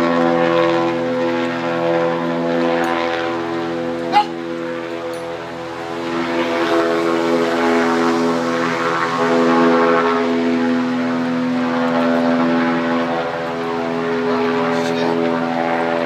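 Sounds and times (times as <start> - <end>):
propeller engines droning: 0.0 - 16.0.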